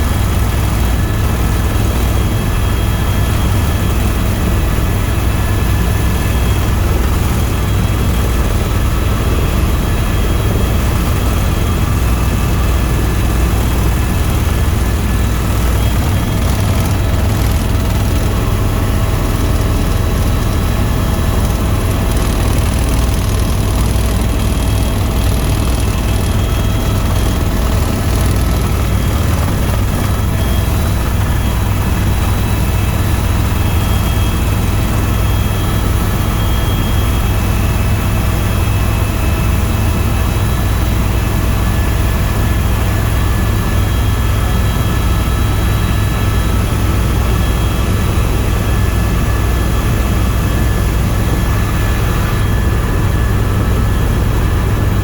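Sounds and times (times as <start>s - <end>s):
helicopter drone: 0.0s - 55.0s
turbine whining: 0.0s - 55.0s.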